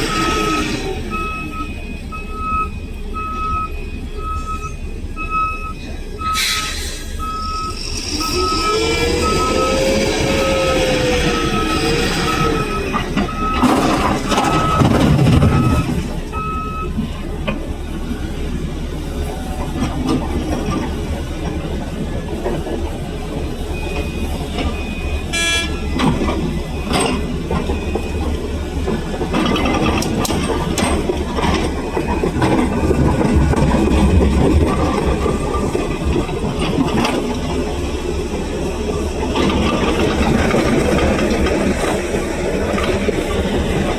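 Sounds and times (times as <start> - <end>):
heavy vehicle engine running: 0.0 - 43.9
reversing alarm beeping: 0.0 - 43.9.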